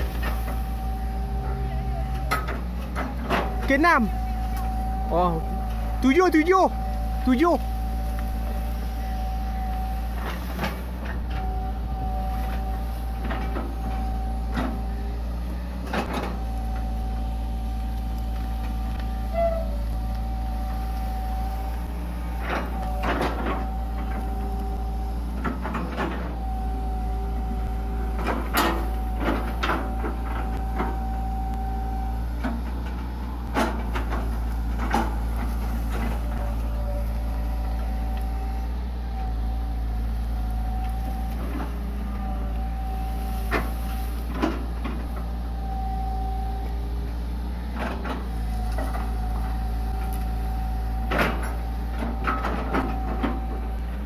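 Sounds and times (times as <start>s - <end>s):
excavator diesel engine running: 0.0s - 54.0s
hydraulic whine: 0.0s - 54.0s.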